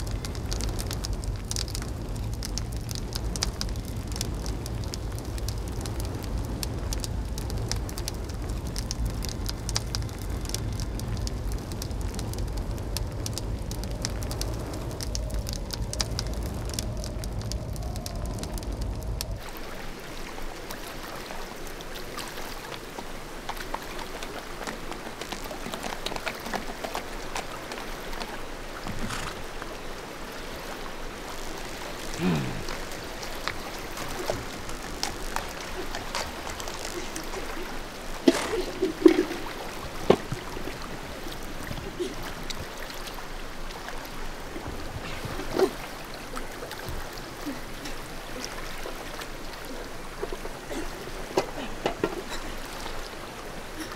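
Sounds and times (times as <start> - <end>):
mountain stream running: 0.0 - 53.9.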